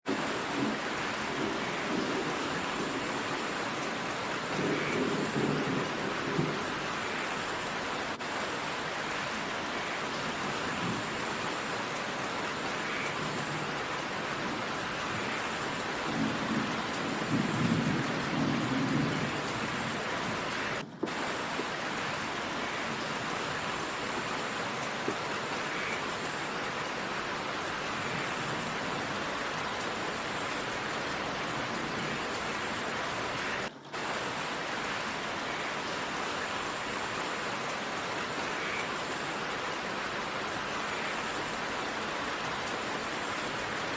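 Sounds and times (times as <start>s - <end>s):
heavy rain downpour: 0.0s - 43.9s.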